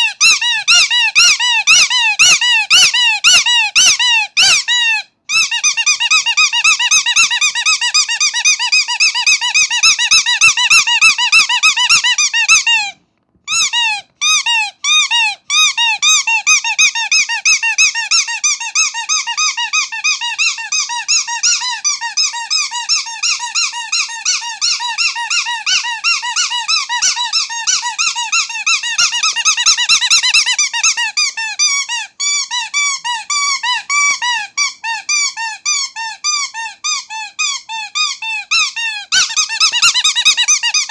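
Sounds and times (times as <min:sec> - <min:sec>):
squeaky toy squeaking: 0:00.0 - 0:40.9.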